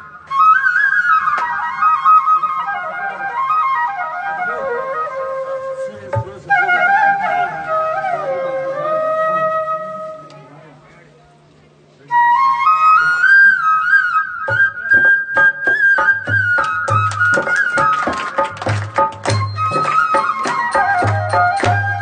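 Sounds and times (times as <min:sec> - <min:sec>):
flute melody: 0:00.0 - 0:10.4, 0:12.0 - 0:22.0.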